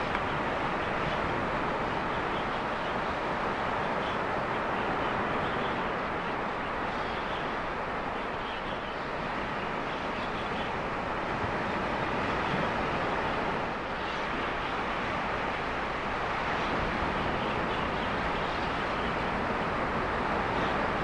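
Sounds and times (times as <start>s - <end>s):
ocean surf breaking: 0.0s - 21.0s
wind: 0.0s - 21.0s.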